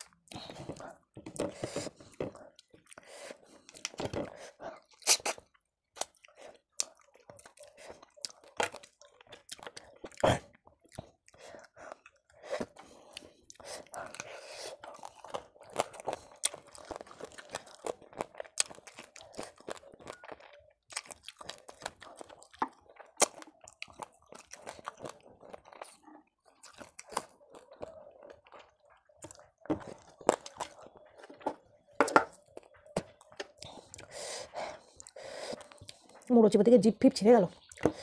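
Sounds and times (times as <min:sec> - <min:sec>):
crunchy chewing of fish bones: 0:00.0 - 0:36.4.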